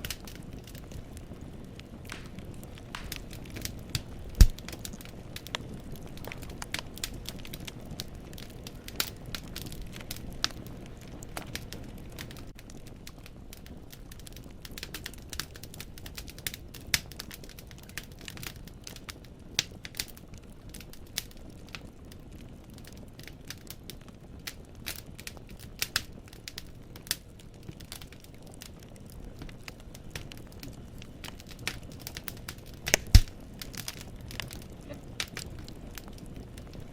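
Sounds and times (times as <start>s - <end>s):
low rumble of flames: 0.0s - 36.9s
wood fire crackling: 0.0s - 36.9s.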